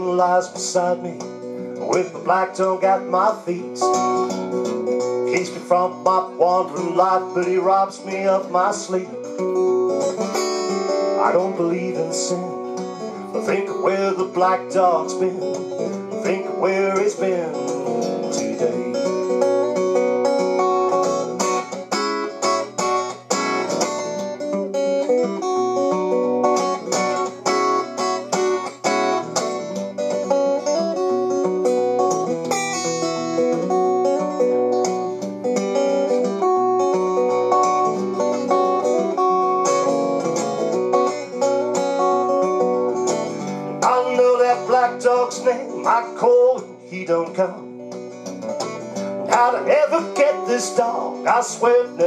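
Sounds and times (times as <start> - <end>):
acoustic guitar playing: 0.0 - 52.0.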